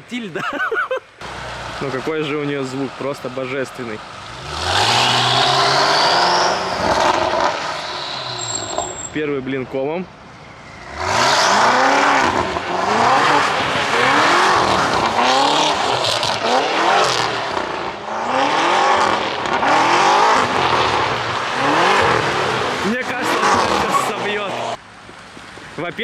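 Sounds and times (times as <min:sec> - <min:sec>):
car engine revving: 0:01.2 - 0:09.2, 0:10.4 - 0:24.8
tyres skidding on wet asphalt: 0:01.2 - 0:09.4, 0:10.2 - 0:26.0.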